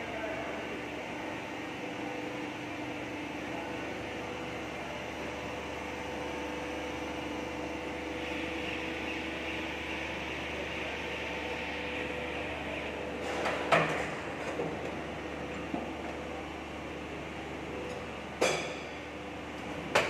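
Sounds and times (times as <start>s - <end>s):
machine hum with tones: 0.0s - 20.0s.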